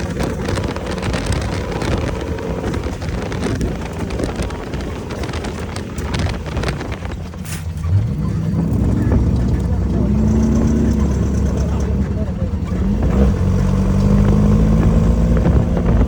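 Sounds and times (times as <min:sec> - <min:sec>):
low engine rumble: 0:00.0 - 0:16.0
wind buffeting microphone: 0:00.0 - 0:16.0.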